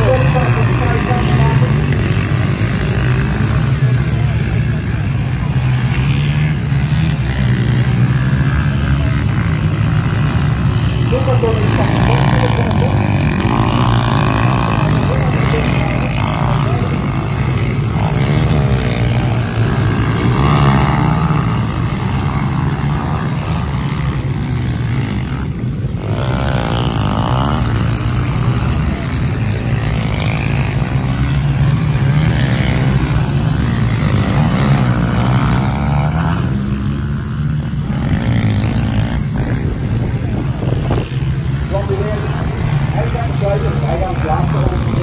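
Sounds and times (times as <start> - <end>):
pit bike engines revving: 0.0 - 45.0.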